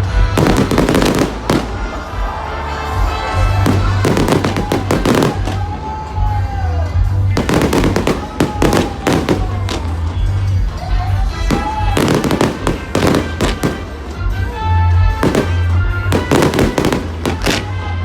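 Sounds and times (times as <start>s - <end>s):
fireworks bangs and crackles: 0.0s - 18.0s
music with heavy bass: 0.0s - 18.0s.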